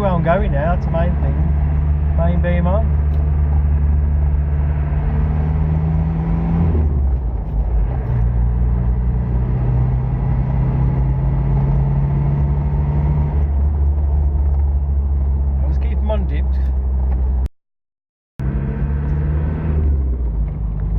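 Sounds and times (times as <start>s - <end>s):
car engine: 0.0s - 17.5s, 18.4s - 20.9s
road noise inside car: 0.0s - 17.5s, 18.4s - 20.9s.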